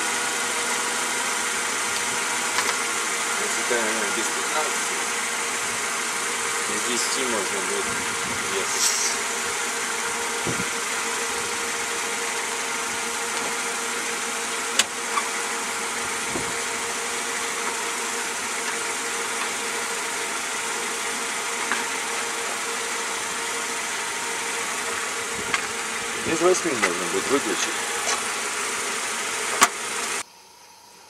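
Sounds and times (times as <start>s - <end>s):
car engine idling: 0.0s - 30.2s.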